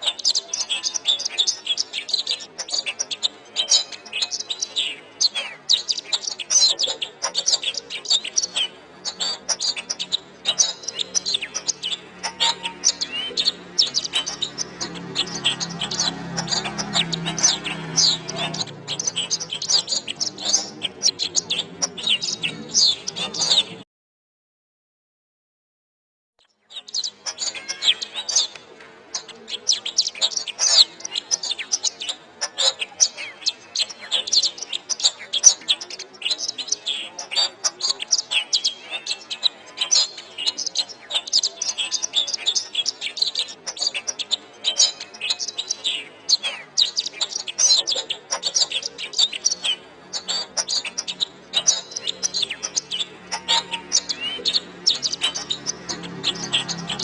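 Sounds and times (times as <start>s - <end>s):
canary singing: 0.0s - 23.8s, 26.5s - 57.0s.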